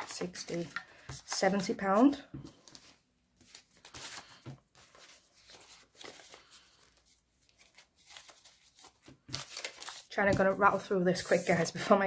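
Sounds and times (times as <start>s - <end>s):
banknotes rustling and flicking: 0.0s - 12.0s.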